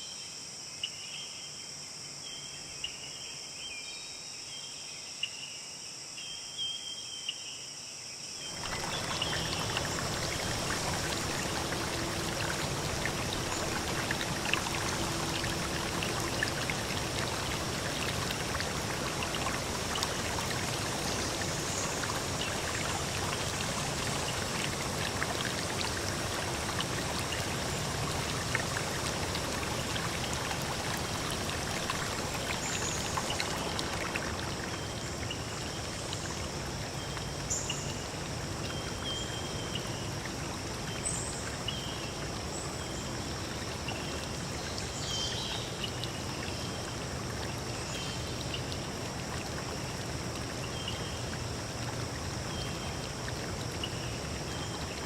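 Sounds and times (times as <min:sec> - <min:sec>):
stream running: 0:08.4 - 0:55.0.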